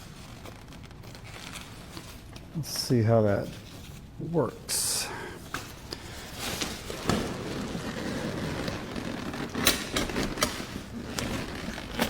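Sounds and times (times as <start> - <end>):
fabric rustling: 0.0 - 4.8, 5.5 - 12.0.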